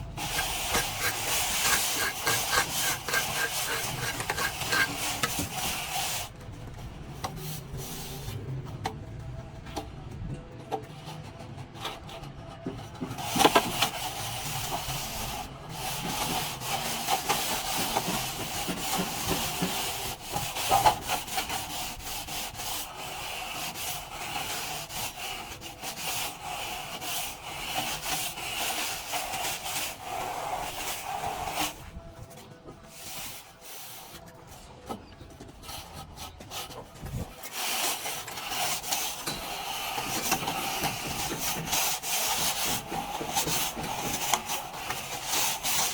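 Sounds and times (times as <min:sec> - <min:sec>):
plastering tool scraping a wall: 0:00.1 - 0:06.4, 0:11.2 - 0:31.9, 0:35.4 - 0:45.9.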